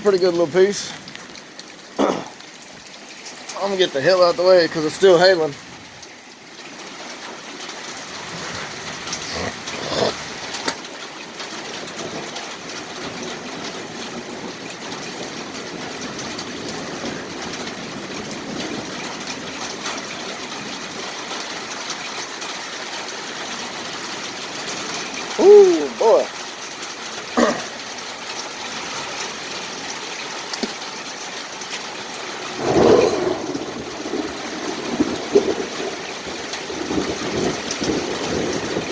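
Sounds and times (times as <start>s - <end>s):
hailstones ticking: 0.0s - 38.9s
rain hissing: 0.0s - 38.9s.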